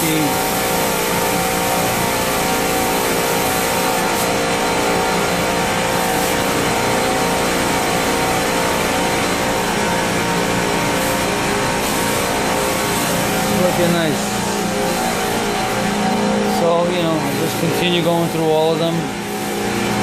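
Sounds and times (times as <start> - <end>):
chiller machinery drone: 0.0 - 20.0.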